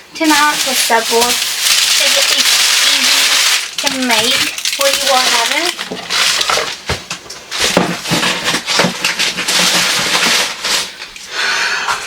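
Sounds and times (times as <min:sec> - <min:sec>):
items knocking: 0:00.2 - 0:11.0.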